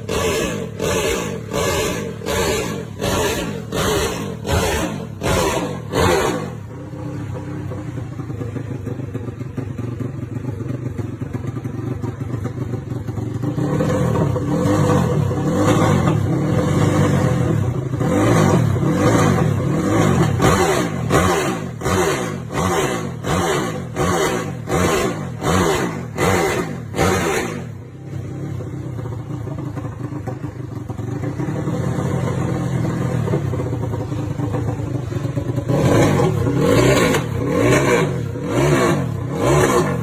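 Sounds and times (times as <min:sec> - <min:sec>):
motorcycle engine revving and idling: 0:00.0 - 0:40.0.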